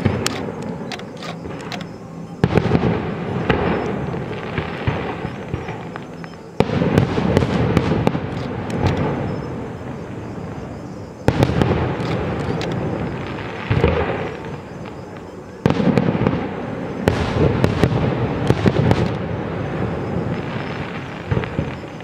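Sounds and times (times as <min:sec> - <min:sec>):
fireworks bursting: 0:00.0 - 0:22.0
fireworks crackling: 0:00.0 - 0:22.0.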